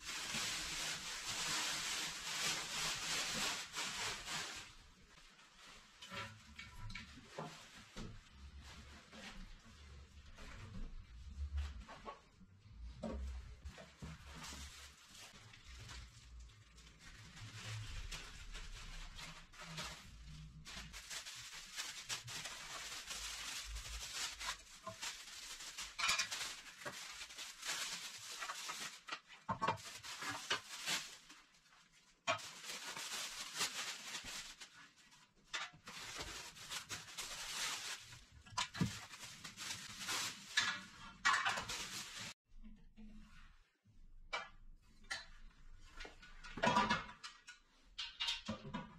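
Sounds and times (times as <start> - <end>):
rustling of parts: 0.0 - 42.4.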